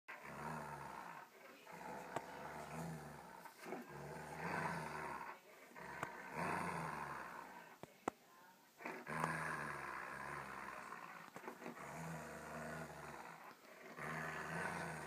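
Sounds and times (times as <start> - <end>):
dog play growling: 0.1 - 7.9, 8.8 - 15.0.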